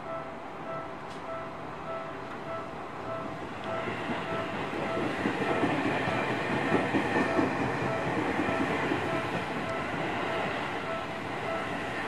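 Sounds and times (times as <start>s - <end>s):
train running: 0.0s - 12.0s.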